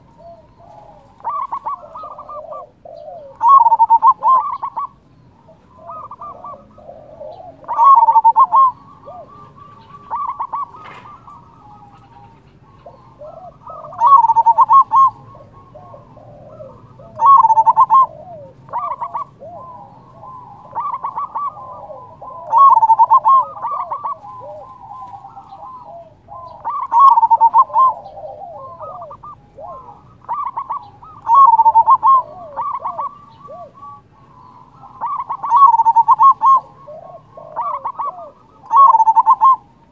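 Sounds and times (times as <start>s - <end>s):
dove staccato coos: 0.0s - 39.9s
soft dove cooing: 0.0s - 39.9s.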